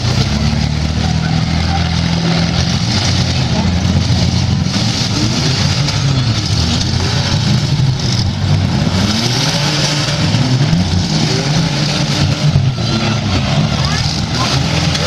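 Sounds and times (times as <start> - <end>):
pickup truck engines revving: 0.0 - 15.0.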